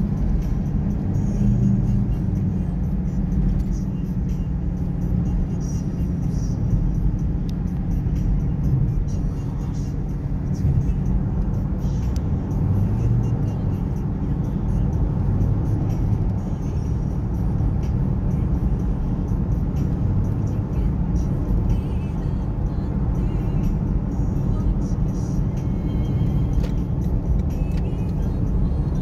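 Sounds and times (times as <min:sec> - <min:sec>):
vehicle rumble: 0:00.0 - 0:29.0.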